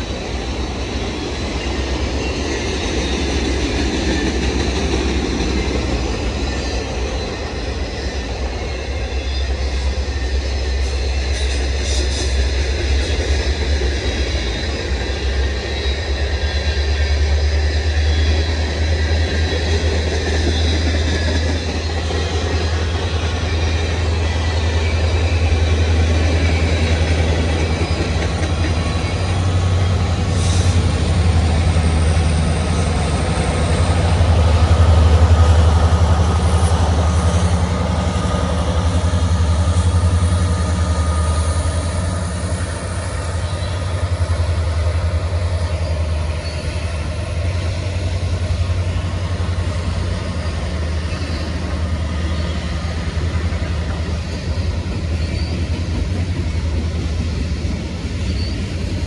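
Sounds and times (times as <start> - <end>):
low diesel locomotive drone: 0.0 - 59.0
railcars rumbling on rails: 0.0 - 59.0.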